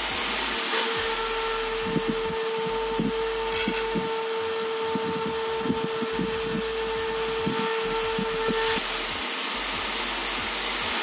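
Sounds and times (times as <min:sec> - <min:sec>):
cooling fan rushing and whining: 0:00.0 - 0:11.0.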